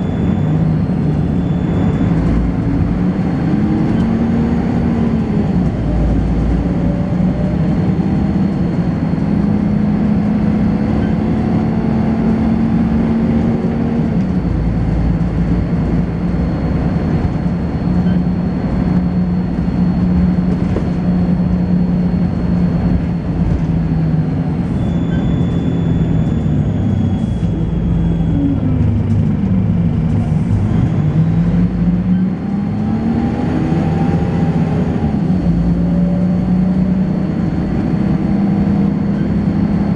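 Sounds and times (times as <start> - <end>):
bus diesel engine: 0.0 - 39.9
high-pitched whine: 0.0 - 39.9.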